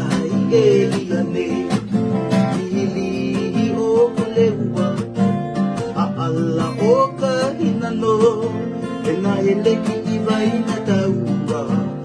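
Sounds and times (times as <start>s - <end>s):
acoustic guitars strummed and picked: 0.0s - 12.0s.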